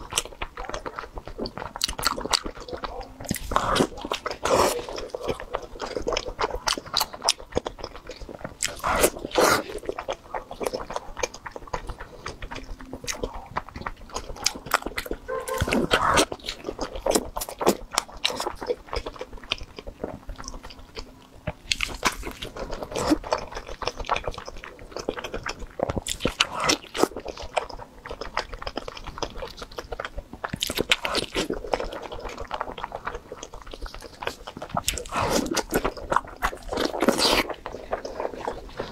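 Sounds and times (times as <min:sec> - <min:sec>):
biting food: 0:00.0 - 0:38.9
mouth clicks chewing: 0:00.0 - 0:38.9.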